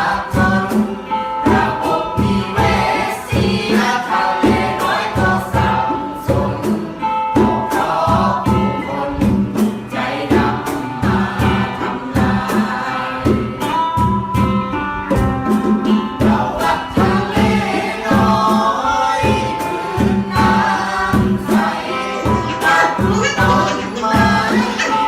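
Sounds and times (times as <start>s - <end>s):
singing voices: 0.0s - 13.6s, 16.2s - 25.0s.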